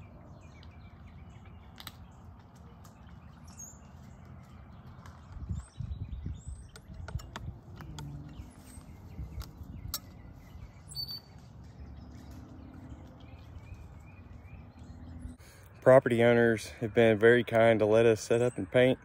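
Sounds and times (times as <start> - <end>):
low wind rumble: 0.0 - 15.5.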